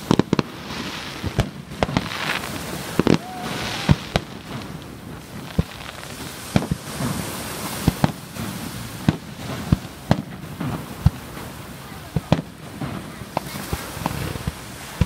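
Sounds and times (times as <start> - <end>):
fireworks bangs: 0.0 - 15.0
steady background hiss: 0.0 - 15.0.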